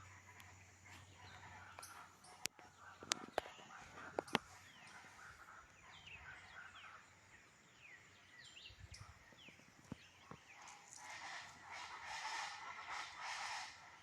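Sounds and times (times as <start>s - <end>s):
harsh bird calls: 0.0s - 14.0s.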